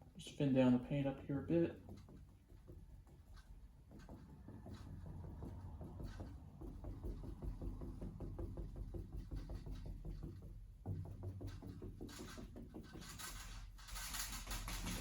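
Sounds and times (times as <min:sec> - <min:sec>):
paintbrush dabbing on canvas: 0:00.0 - 0:13.9.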